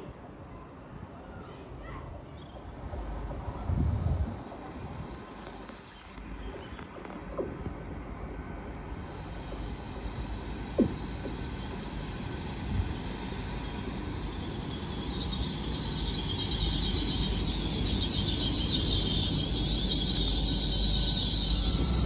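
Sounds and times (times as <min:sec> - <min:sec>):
train rumbling and hissing: 0:00.0 - 0:22.0.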